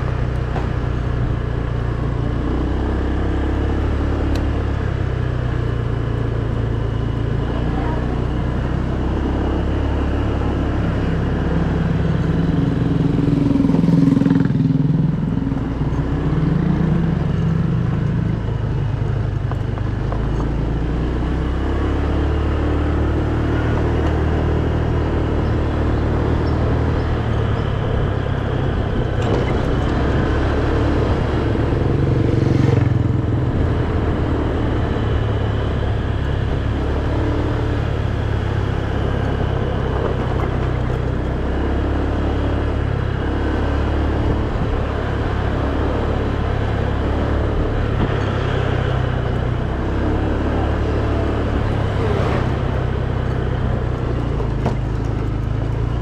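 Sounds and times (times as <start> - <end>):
motor scooter engine: 0.0 - 56.0
road and wind noise: 0.0 - 56.0.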